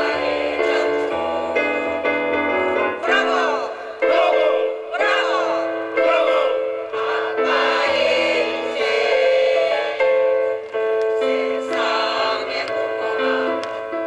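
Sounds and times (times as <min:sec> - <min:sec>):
mixed choir singing: 0:00.0 - 0:02.2, 0:03.0 - 0:14.0
instrumental accompaniment: 0:00.0 - 0:14.0.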